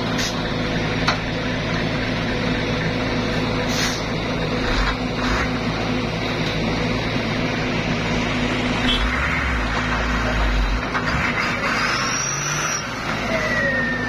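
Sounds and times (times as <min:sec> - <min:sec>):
heavy diesel engines running: 0:00.0 - 0:14.0.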